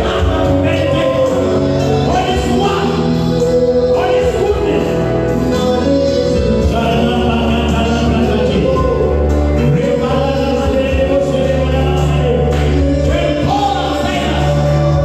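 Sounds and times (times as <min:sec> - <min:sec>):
gospel singing with band: 0:00.0 - 0:15.0.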